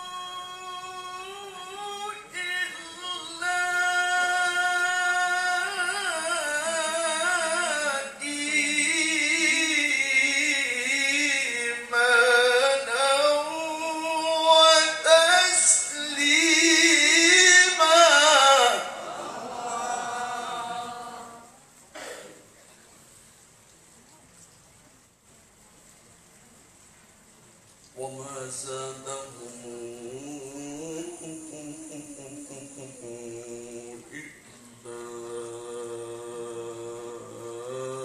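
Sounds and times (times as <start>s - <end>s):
person chanting melodically: 0.0s - 21.6s, 28.0s - 38.0s.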